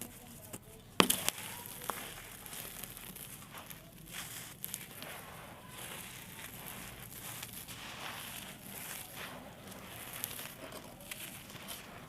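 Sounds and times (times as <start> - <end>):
dirt blocks crumbling: 0.0 - 12.0.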